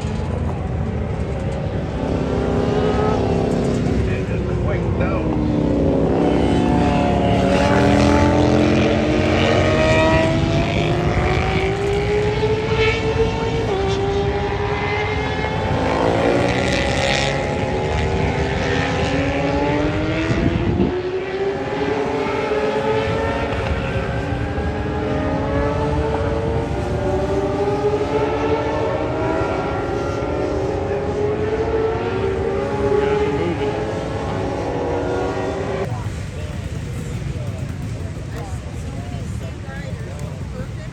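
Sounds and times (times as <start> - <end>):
racing motorcycle engines revving: 0.0 - 40.9.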